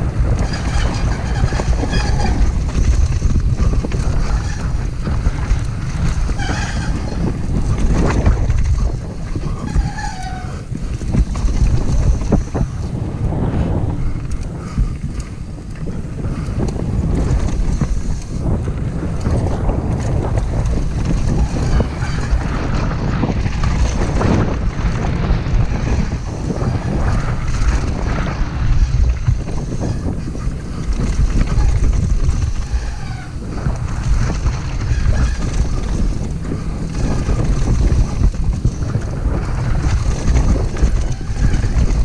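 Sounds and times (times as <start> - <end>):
bike knocks and rattles: 0.0 - 42.0
tyre noise on loose dirt: 0.0 - 42.0
wind rush on microphone: 0.0 - 42.0.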